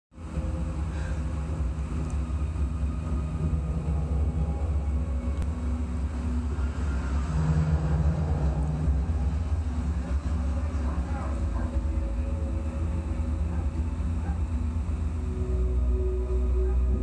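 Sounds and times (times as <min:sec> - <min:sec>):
faint steady tones: 0:00.1 - 0:17.0
low mechanical hum: 0:00.1 - 0:17.0.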